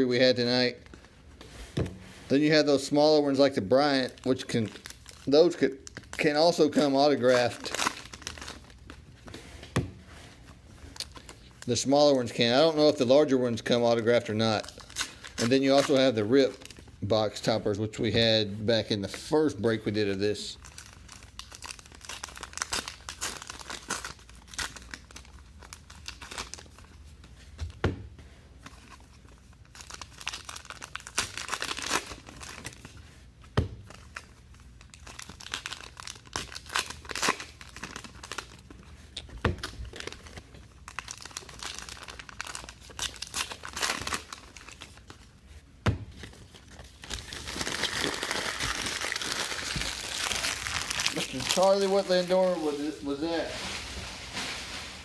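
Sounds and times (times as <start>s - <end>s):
wrappers crinkling and tearing: 2.3s - 9.2s, 10.9s - 17.6s, 19.1s - 27.2s, 28.6s - 45.6s, 46.2s - 55.0s.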